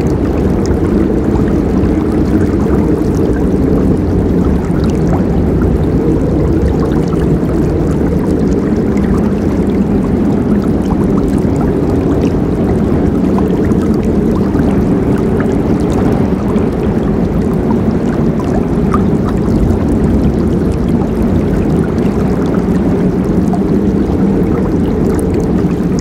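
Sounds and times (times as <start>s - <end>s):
small water splashes: 0.0s - 26.0s.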